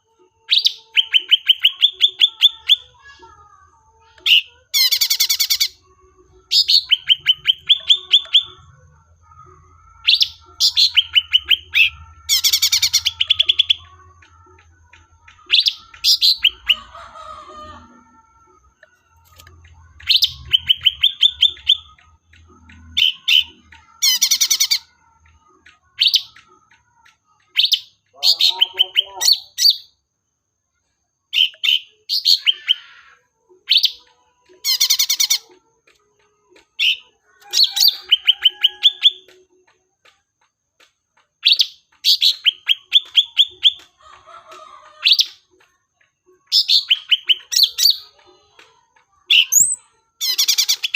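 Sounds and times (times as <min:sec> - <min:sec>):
bird chirping song: 0:00.0 - 0:50.9.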